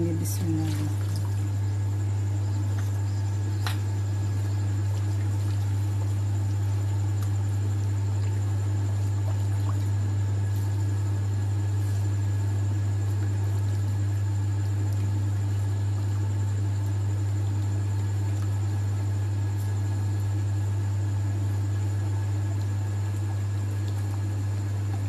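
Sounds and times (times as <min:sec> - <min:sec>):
appliance humming: 0:00.0 - 0:25.0.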